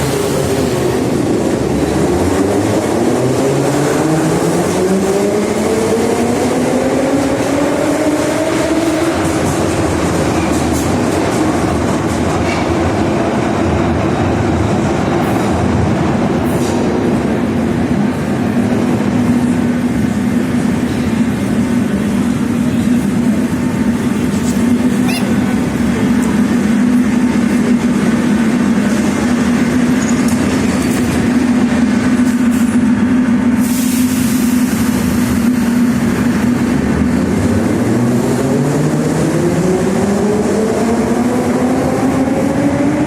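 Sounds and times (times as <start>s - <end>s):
metro train rumbling: 0.0s - 43.0s.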